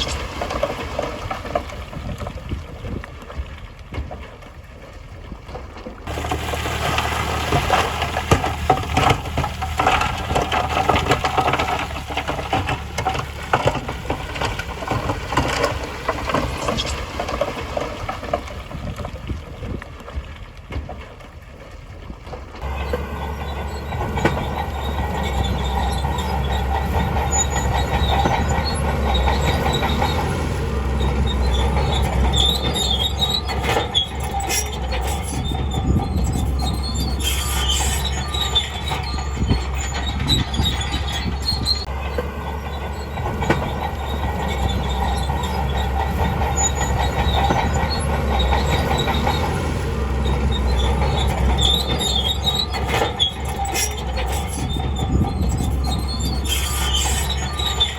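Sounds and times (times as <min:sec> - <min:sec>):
steel tracks squealing and clanking: 0:00.0 - 0:02.1, 0:06.0 - 0:18.8, 0:22.6 - 0:57.9
bulldozer engine humming: 0:00.0 - 0:57.9.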